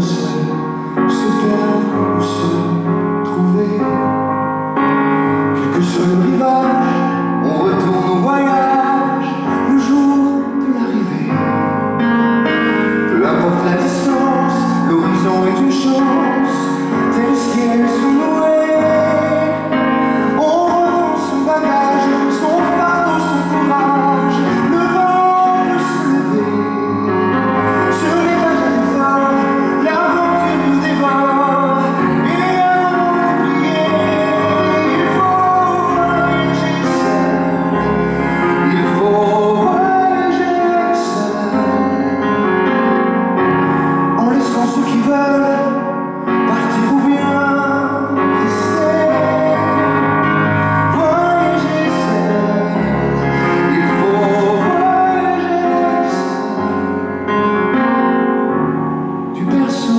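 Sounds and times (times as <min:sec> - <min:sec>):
man singing into a microphone: 0:00.0 - 0:57.3, 0:59.2 - 0:59.9
piano accompaniment: 0:00.0 - 0:59.9.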